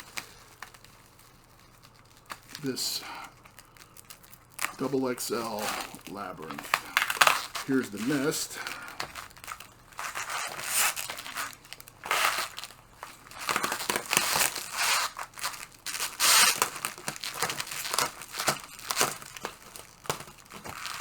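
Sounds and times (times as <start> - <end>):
packing material crinkling: 0.0 - 21.0.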